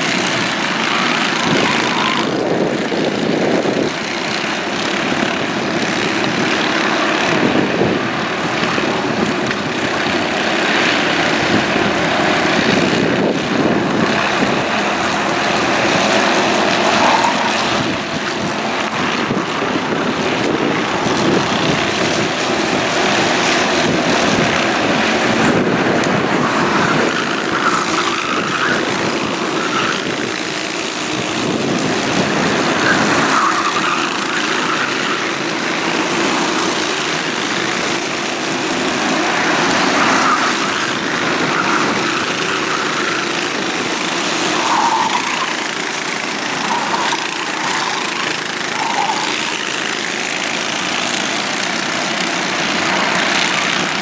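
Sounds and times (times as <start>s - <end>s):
racing kart engines: 0.0s - 54.0s.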